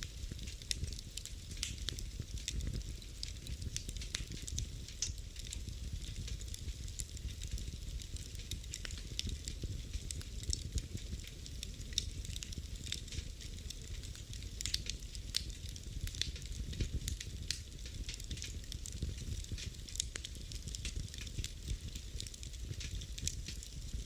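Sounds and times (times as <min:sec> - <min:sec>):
low rush of flames: 0:00.0 - 0:24.0
wood fire crackling and popping: 0:00.0 - 0:24.0.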